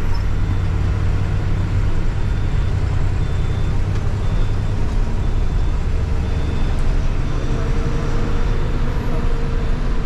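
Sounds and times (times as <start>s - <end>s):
bus engine rumble: 0.0s - 10.0s
road noise: 0.0s - 10.0s.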